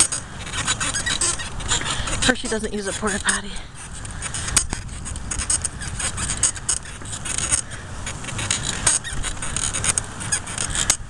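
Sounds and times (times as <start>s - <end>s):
bike rattling and clicking: 0.0s - 11.0s.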